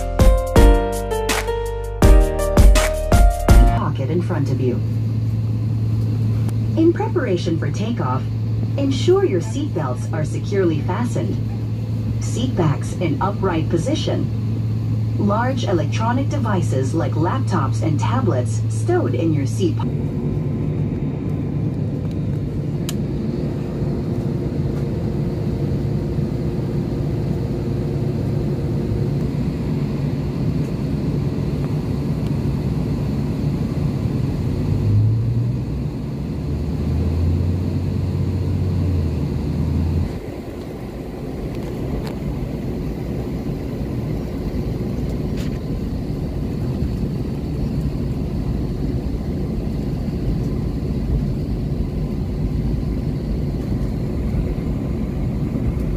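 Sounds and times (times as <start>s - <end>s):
airliner engine hum in cabin: 0.0s - 55.9s
deep engine drone: 0.0s - 55.9s.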